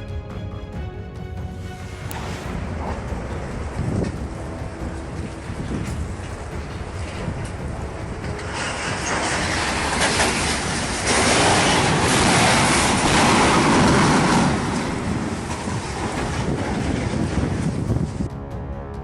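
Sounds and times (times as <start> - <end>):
wind buffeting microphone: 2.0 - 19.0.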